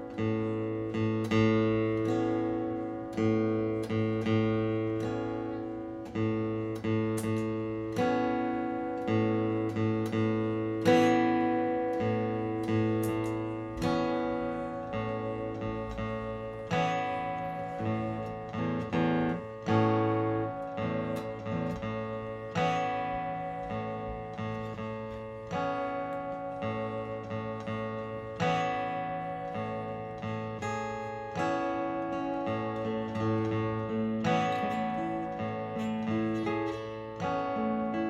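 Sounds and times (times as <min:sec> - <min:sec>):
looped acoustic guitar chords: 0:00.0 - 0:38.0.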